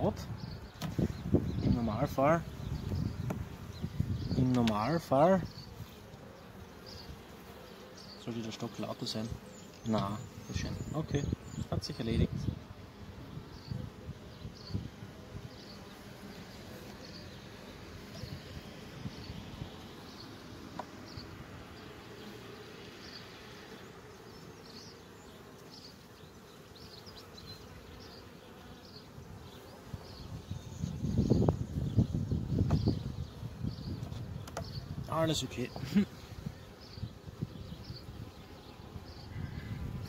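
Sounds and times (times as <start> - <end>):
bees humming: 0.0 - 40.0.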